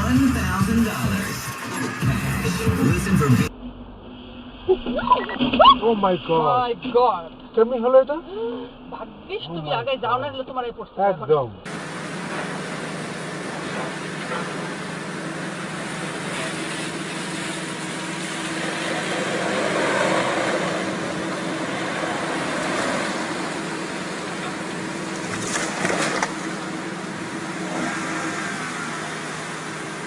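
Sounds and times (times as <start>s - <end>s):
car driving on road: 0.0s - 30.0s.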